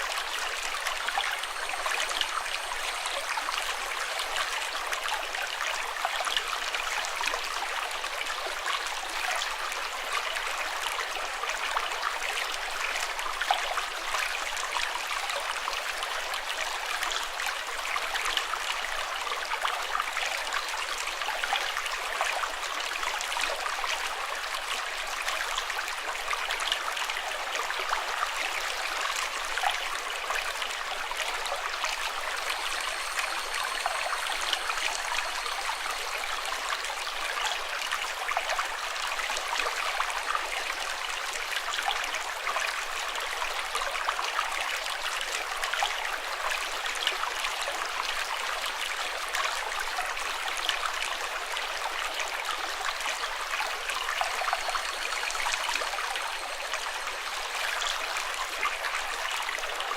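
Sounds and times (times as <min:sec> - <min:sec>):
stream water rushing: 0:00.0 - 0:10.5, 0:21.8 - 0:59.9.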